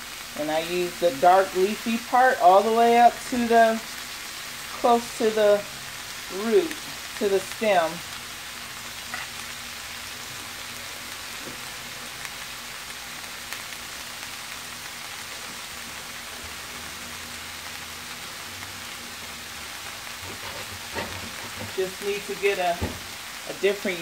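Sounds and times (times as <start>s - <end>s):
vegetables sizzling in a skillet: 0.0s - 24.0s.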